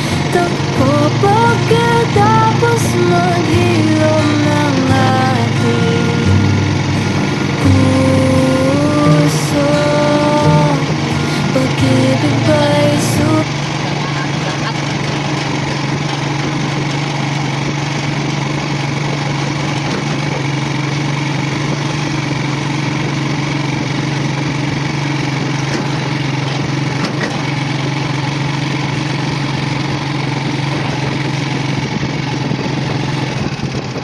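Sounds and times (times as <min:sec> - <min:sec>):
small engine running steadily: 0:00.0 - 0:34.0.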